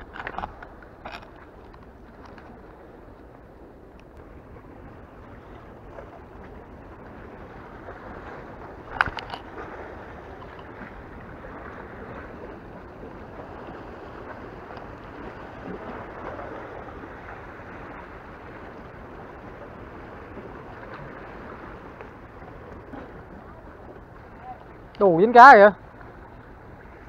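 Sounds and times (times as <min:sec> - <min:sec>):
sea water lapping at shore: 0:00.0 - 0:27.0.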